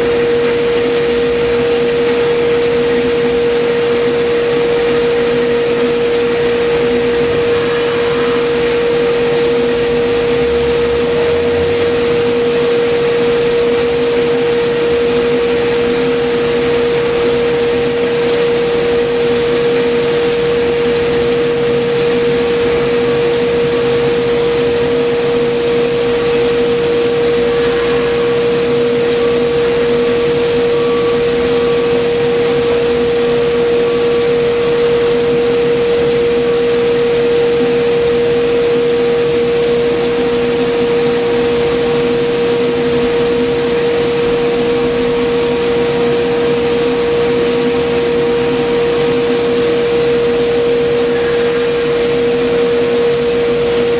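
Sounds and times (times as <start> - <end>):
granulator and blower whirring: 0.0 - 53.9.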